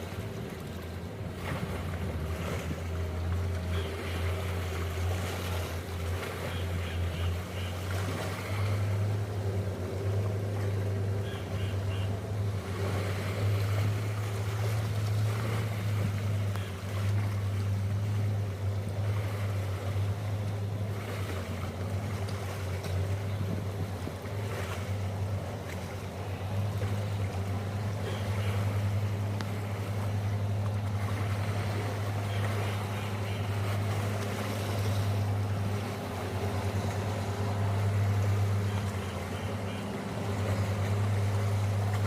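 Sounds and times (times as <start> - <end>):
low engine hum: 0.0 - 42.0
water noise: 0.0 - 42.0.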